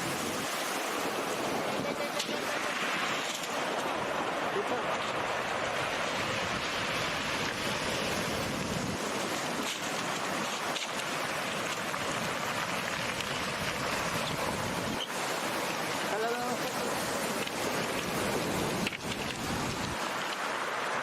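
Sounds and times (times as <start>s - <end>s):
sea waves rushing: 0.0s - 21.0s.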